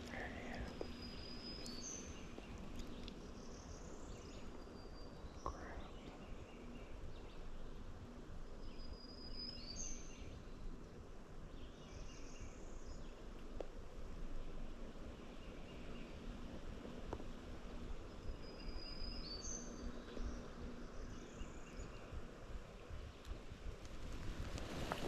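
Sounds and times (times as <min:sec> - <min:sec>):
songbirds singing: 0:00.0 - 0:23.4
faint low hum: 0:00.0 - 0:25.0
steady background hiss: 0:00.0 - 0:25.0.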